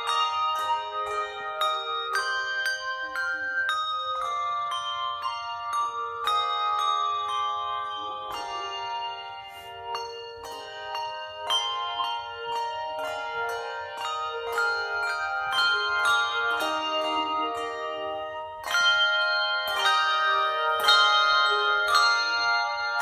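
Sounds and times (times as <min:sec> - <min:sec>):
handbell choir playing: 0:00.0 - 0:23.0.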